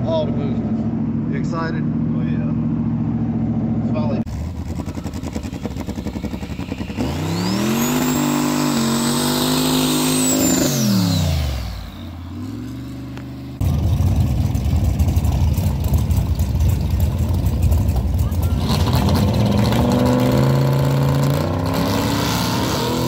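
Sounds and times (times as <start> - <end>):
engines idling with rough rumble: 0.0 - 21.0
high engine whine: 0.0 - 23.0.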